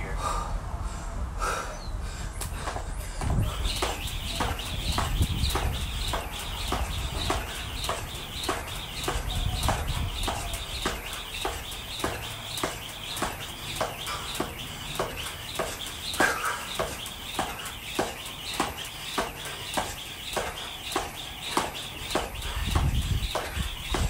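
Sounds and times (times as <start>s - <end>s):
jump rope slapping concrete: 2.4s - 24.0s
rope whirring: 2.4s - 24.0s.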